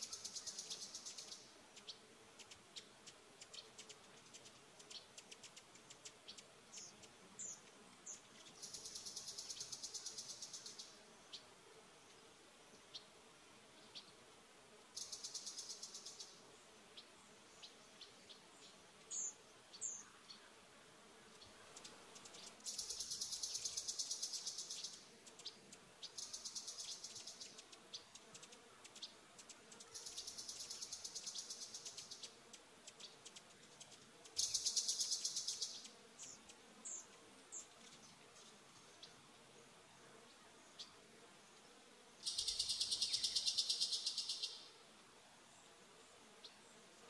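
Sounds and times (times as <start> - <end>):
insect-like buzzing trills: 0.0 - 11.5, 14.9 - 44.8.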